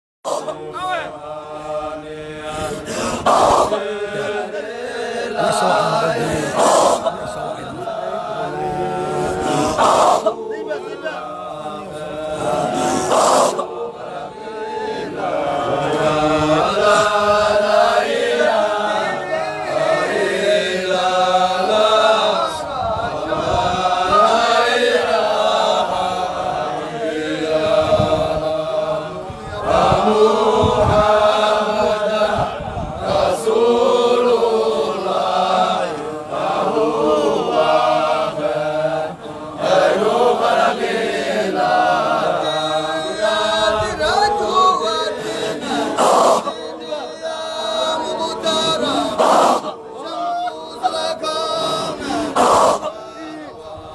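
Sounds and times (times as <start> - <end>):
group of voices chanting: 0.2 - 53.9.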